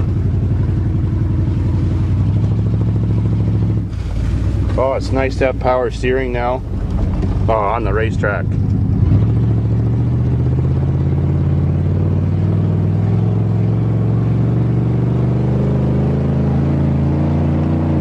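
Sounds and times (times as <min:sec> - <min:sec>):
pickup engine running under load: 0:00.0 - 0:18.0.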